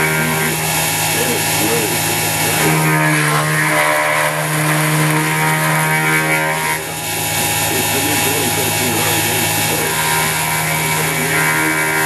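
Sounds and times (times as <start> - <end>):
end mill cutting metal: 0.0 - 12.0
milling machine motor hum: 0.0 - 12.0.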